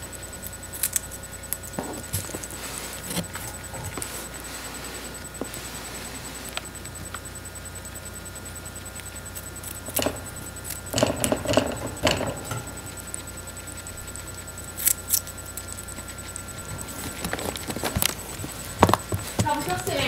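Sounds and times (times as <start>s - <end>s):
guinea pig crunching carrot: 0.0s - 20.0s.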